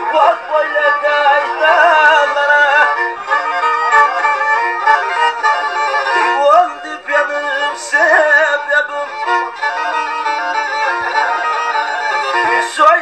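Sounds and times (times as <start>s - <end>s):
bowed fiddle melody with sliding notes: 0.0s - 13.0s.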